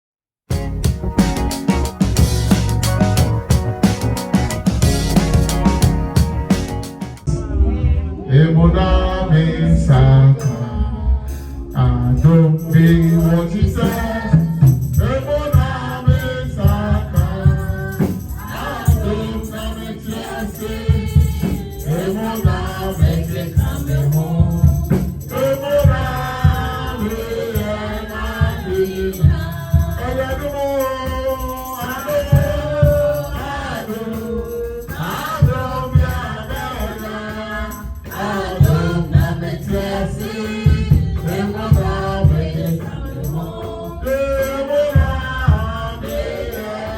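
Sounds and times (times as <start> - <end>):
rattling hand percussion: 0.5 - 7.3, 11.3 - 46.9
gospel voices singing with band: 0.5 - 46.9.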